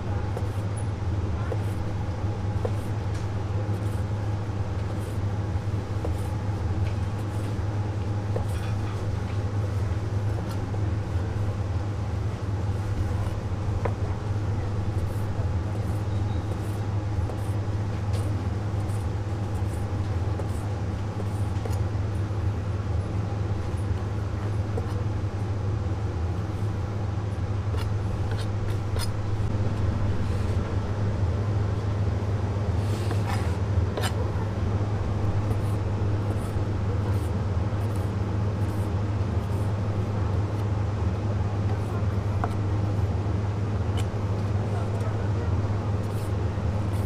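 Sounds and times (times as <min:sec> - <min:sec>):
loud steady low hum: 0:00.0 - 0:47.0.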